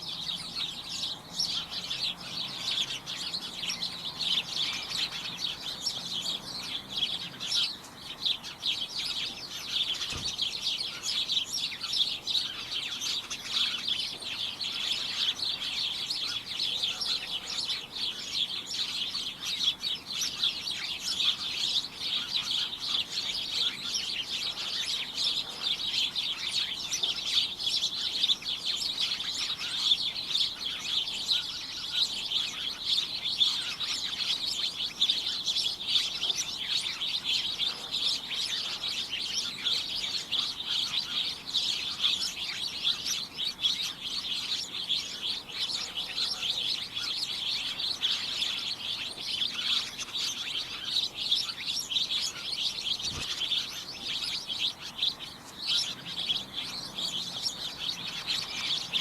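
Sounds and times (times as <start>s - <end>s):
many small birds chirping: 0.0s - 59.0s.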